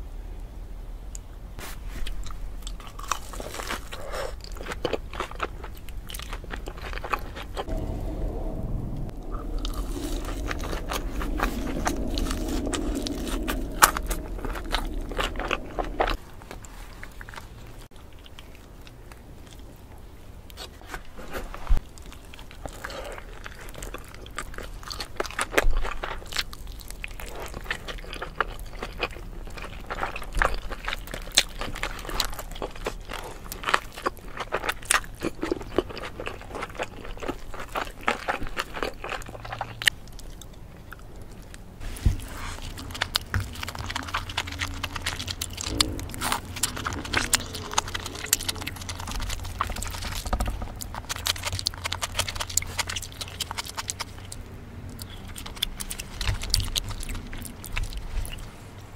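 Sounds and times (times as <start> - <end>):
low steady hum: 0.0 - 58.9
chewing with crunches: 1.6 - 8.2, 9.0 - 58.9.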